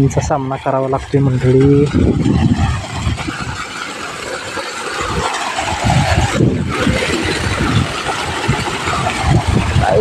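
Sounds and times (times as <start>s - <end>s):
wind buffeting microphone: 1.0s - 10.0s.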